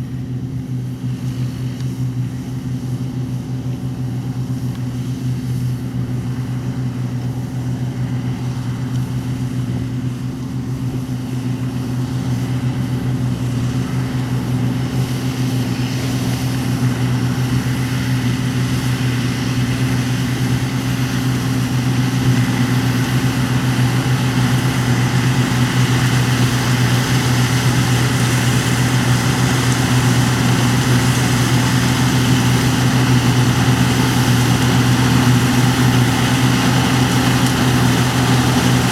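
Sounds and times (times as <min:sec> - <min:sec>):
diesel harvest machinery humming: 0:00.0 - 0:38.9.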